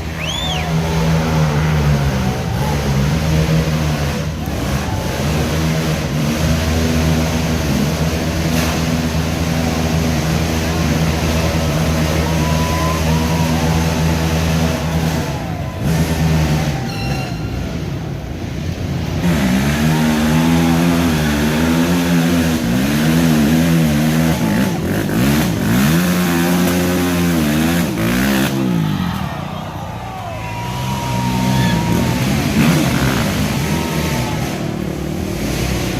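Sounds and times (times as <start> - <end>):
racing atv engines revving: 0.0 - 35.9.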